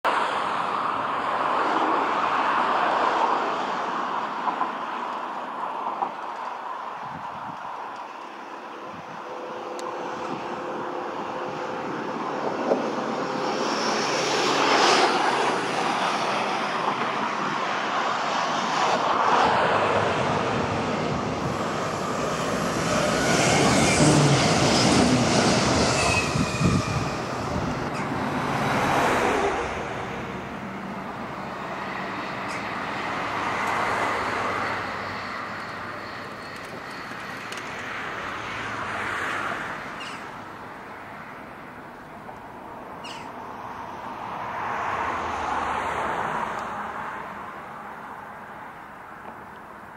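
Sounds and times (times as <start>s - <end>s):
electric train passing: 7.6s - 49.9s.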